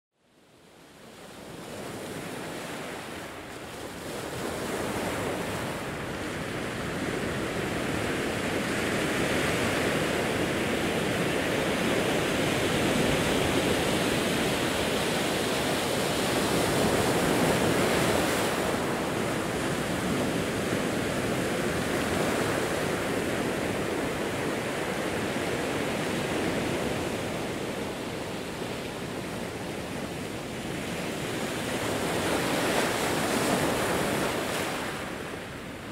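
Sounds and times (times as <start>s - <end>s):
ocean surf on rocky shore: 1.2s - 35.9s.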